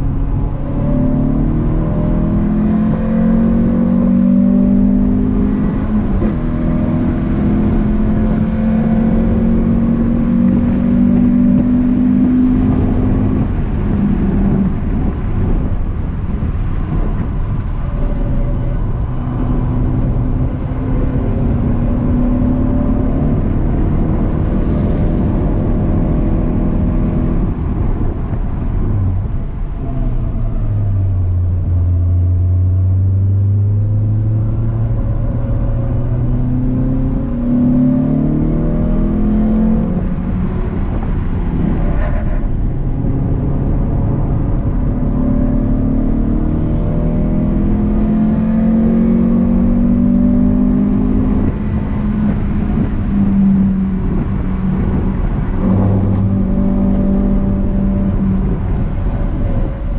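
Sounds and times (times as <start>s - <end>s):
car engine accelerating: 0.0s - 59.9s
road and tyre noise: 0.0s - 59.9s.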